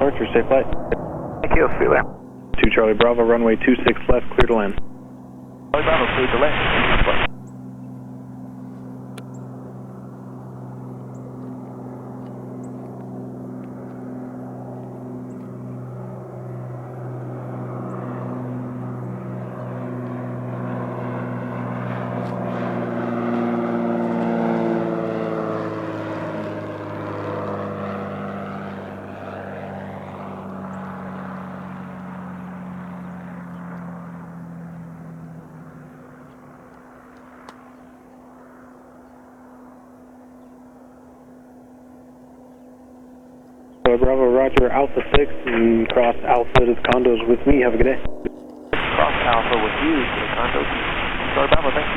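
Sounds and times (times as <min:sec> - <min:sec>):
propeller plane engine droning: 0:00.0 - 0:51.9.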